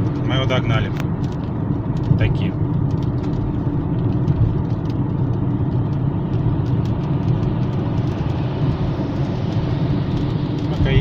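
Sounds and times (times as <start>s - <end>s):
car road and engine rumble: 0.0s - 11.0s
raindrops ticking on car: 0.0s - 11.0s.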